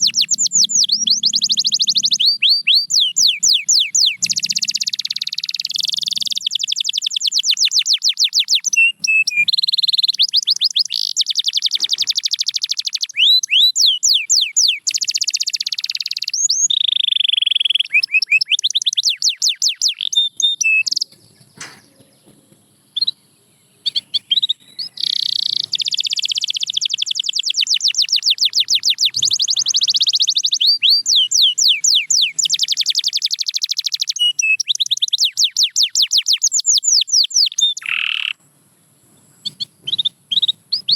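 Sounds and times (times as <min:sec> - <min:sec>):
canary singing trills: 0:00.0 - 0:38.5, 0:39.1 - 0:40.9.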